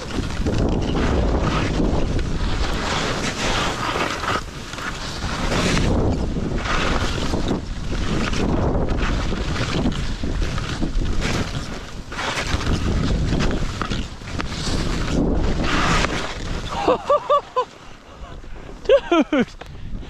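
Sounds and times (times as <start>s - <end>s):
wind buffeting microphone: 0.0s - 20.0s
skis hissing through snow: 1.0s - 17.8s.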